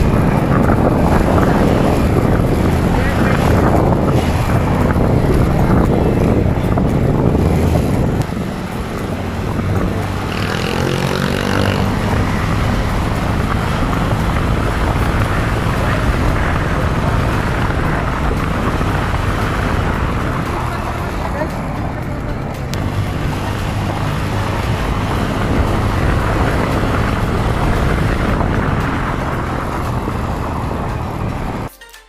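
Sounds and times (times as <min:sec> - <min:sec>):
scooter engine running: 0:00.0 - 0:31.7
wind rushing over helmet: 0:00.0 - 0:31.7.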